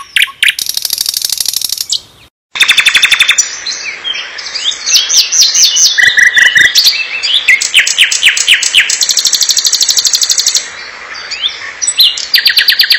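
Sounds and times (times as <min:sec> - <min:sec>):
nightingale singing: 0:00.0 - 0:12.9.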